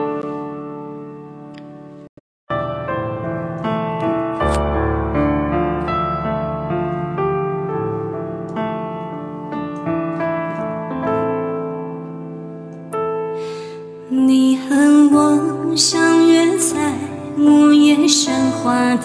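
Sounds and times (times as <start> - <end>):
slow solo piano: 0.0 - 19.0.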